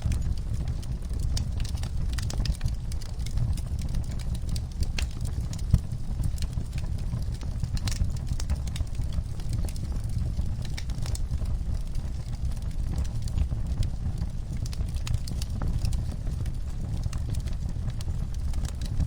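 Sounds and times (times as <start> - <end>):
fire popping and snapping: 0.0 - 19.0
low fire rumble: 0.0 - 19.0
wood fire crackling: 0.0 - 19.0.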